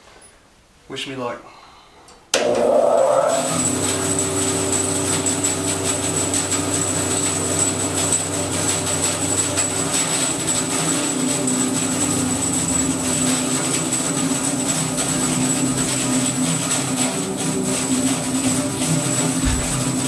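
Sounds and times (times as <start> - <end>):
bandsaw motor humming: 2.3 - 20.0.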